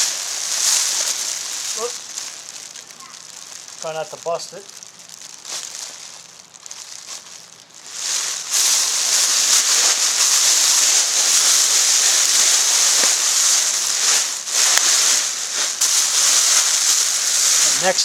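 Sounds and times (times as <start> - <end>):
crinkly material rustling: 0.0 - 18.0.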